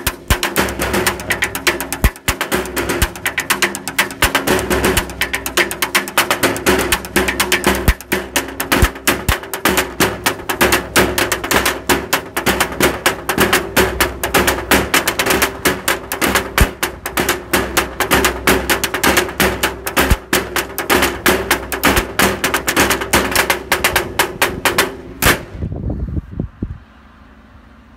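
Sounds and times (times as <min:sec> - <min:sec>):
ringing metal sign plates: 0:00.0 - 0:25.5
metal signs struck as percussion: 0:00.0 - 0:25.6.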